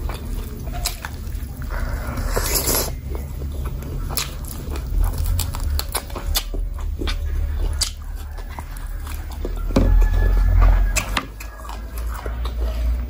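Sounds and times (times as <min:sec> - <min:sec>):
wet chewing and lip smacks: 0:00.0 - 0:02.0, 0:02.9 - 0:13.0
steady low hum: 0:00.0 - 0:13.0.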